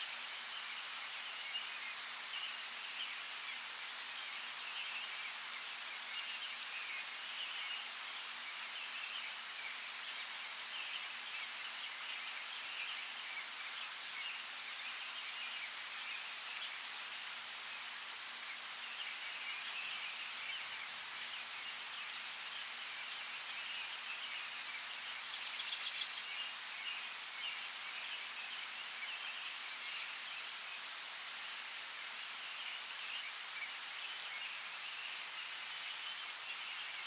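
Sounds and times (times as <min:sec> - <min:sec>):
rain hiss: 0:00.0 - 0:37.0
small birds chirping: 0:00.2 - 0:37.0.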